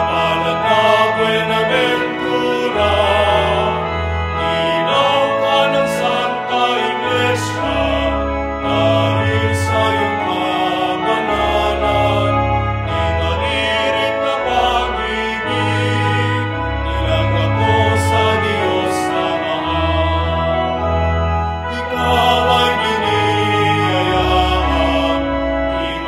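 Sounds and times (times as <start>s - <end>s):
hymn singing: 0.0s - 26.0s
instrumental accompaniment with bass: 0.0s - 26.0s.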